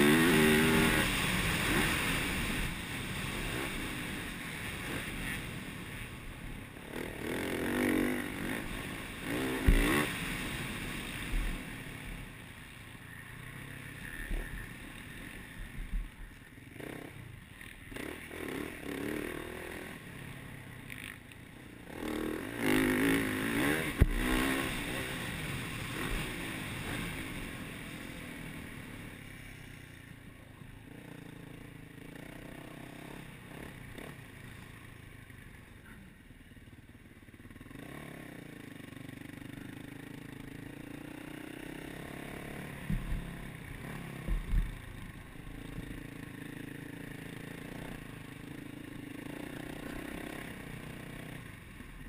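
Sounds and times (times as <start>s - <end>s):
motorcycle engine revving: 0.0s - 12.3s, 13.0s - 30.2s, 30.9s - 52.0s.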